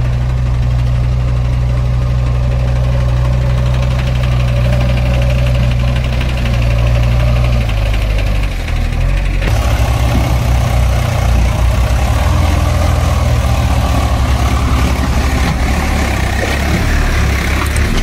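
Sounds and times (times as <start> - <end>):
diesel engine throbbing: 0.0 - 18.0.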